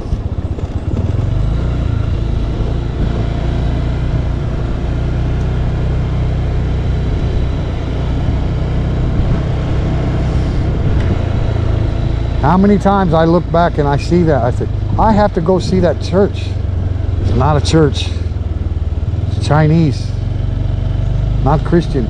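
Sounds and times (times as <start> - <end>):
motorcycle engine rumble: 0.0 - 22.0.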